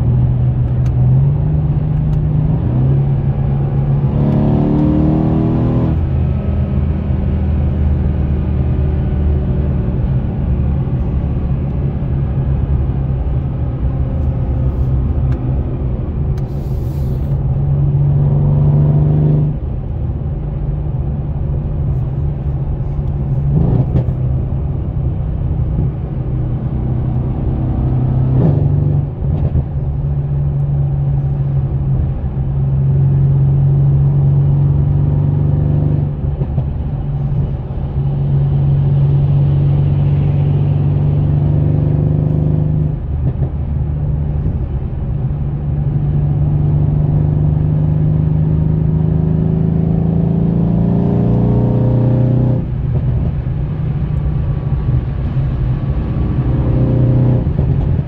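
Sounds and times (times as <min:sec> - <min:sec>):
car engine droning from inside: 0:00.0 - 0:58.0.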